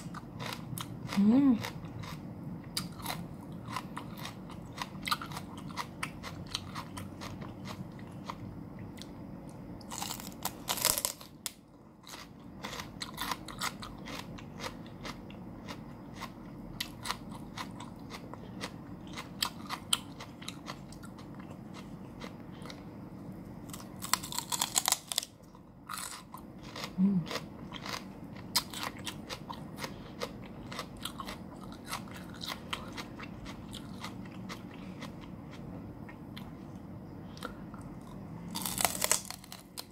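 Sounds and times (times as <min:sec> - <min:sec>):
celery being bitten and chewed: 0:00.0 - 0:08.4, 0:09.8 - 0:22.8, 0:23.6 - 0:35.7, 0:37.4 - 0:39.9.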